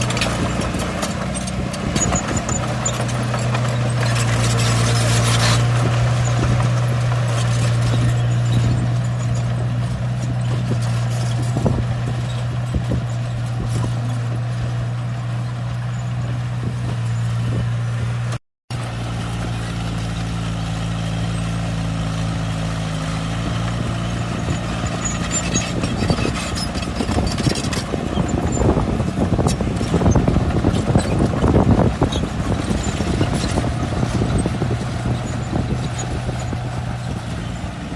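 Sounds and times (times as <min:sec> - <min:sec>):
metal clattering and clanking: 0:00.0 - 0:17.4, 0:23.6 - 0:37.9
diesel engine humming: 0:00.0 - 0:37.9.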